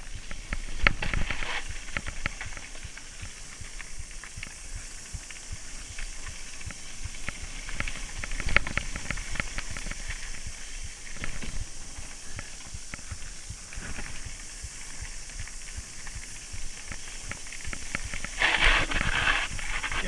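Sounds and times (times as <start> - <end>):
bike rattling over bumps: 0.0 - 20.0
tyres hissing on dirt: 0.0 - 20.0.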